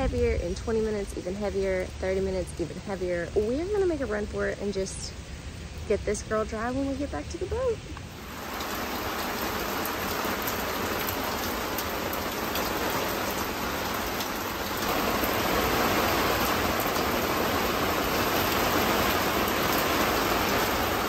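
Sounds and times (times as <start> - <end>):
heavy rain on canvas: 0.0 - 21.0.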